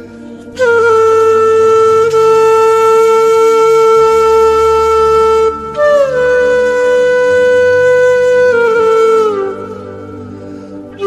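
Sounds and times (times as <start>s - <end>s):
wind instrument holding notes: 0.1s - 11.0s.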